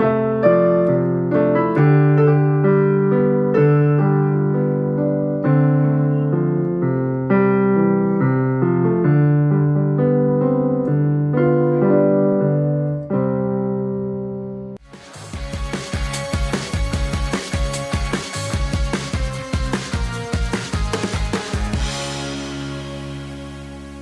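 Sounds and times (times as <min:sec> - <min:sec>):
keyboard playing piano chords: 0:00.0 - 0:24.0.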